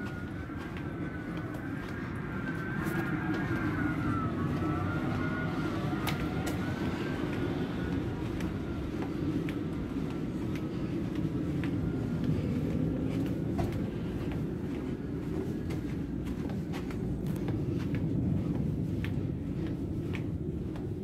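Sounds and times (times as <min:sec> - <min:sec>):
faint wavering whine: 0:00.0 - 0:21.0
ship ventilation and machinery rumble: 0:00.0 - 0:21.0.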